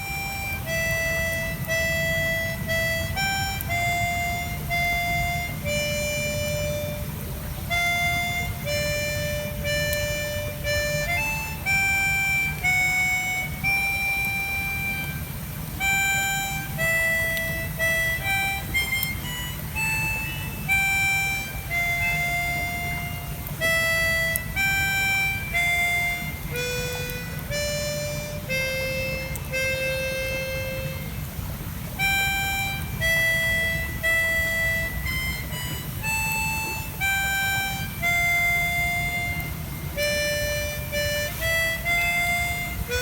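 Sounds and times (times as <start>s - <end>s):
harmonica slow melody: 0.0s - 43.0s
low steady rumble: 0.0s - 43.0s.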